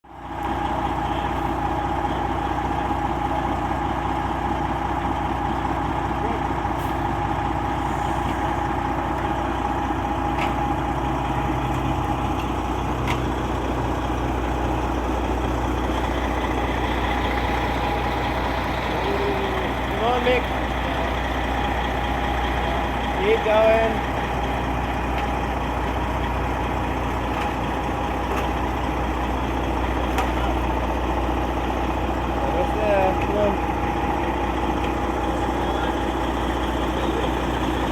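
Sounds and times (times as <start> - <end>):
truck engine idling: 0.0 - 37.9.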